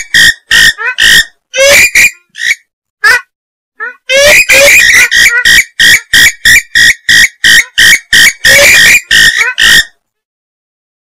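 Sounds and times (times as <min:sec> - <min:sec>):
swamphen harsh calls: 0:00.2 - 0:03.2, 0:03.8 - 0:09.9.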